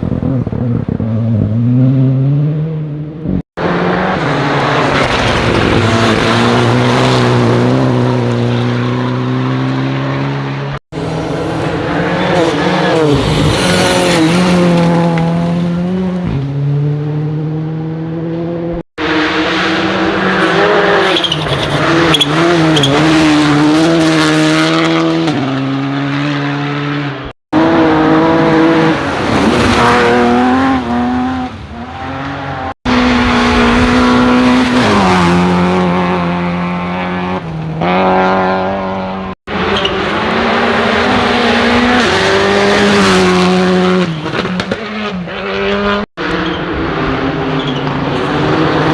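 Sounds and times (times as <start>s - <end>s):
rally car engines at high revs: 0.0s - 48.9s.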